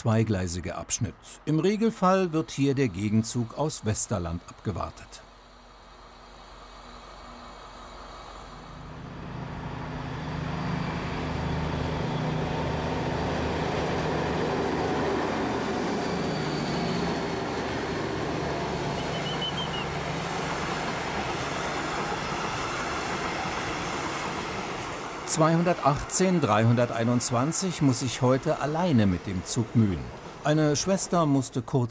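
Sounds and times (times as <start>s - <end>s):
diesel locomotive engines: 0.0s - 31.9s.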